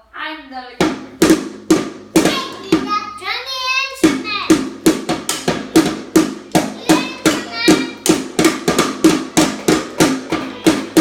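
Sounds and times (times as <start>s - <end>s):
drum struck rapidly: 0.8s - 3.2s, 4.0s - 11.0s.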